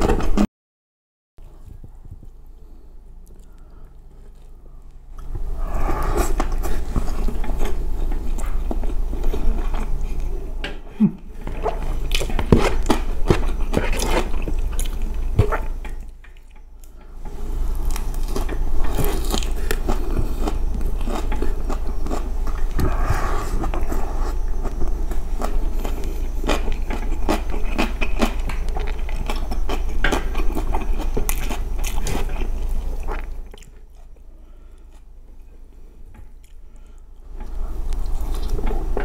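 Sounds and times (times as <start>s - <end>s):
close chewing with small clicks: 1.4s - 5.4s, 6.1s - 10.8s, 11.4s - 39.0s.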